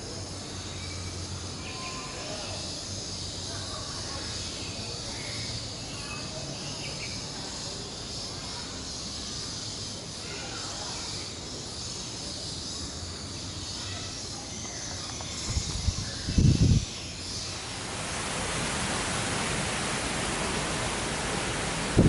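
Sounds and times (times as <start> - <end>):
insect chorus buzzing: 0.0 - 22.0.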